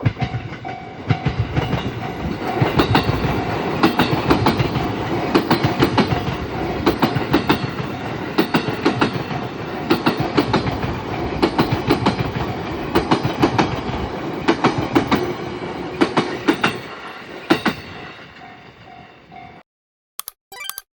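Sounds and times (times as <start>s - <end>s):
train running rumble: 0.0s - 19.0s
wheels clicking over rail joints: 0.1s - 17.8s.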